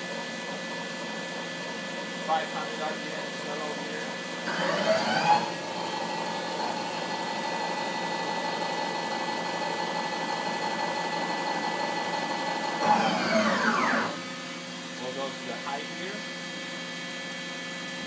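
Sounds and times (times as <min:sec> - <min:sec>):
lathe spindle whine: 0:00.0 - 0:18.0.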